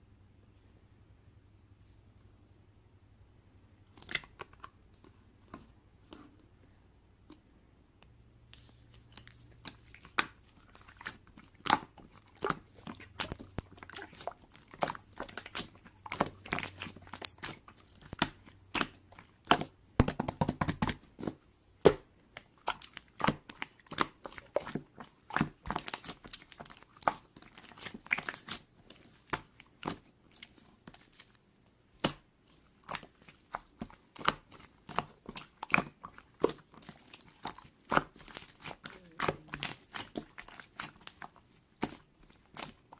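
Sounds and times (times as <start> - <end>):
hands squishing slime: 3.9 - 6.5, 8.4 - 42.9.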